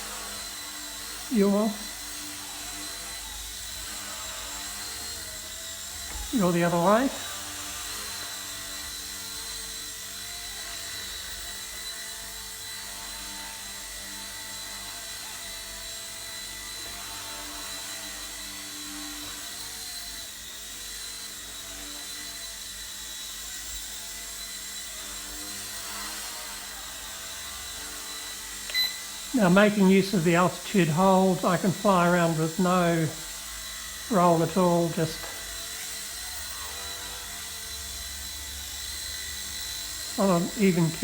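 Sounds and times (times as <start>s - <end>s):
toy helicopter motor whine: 0.0s - 41.0s.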